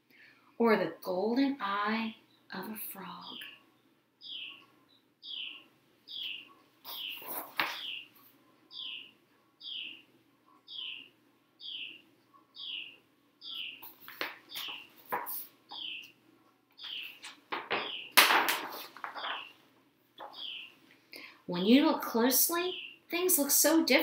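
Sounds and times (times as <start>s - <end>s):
bird chirping: 2.2s - 19.6s, 20.2s - 21.7s, 22.5s - 23.1s.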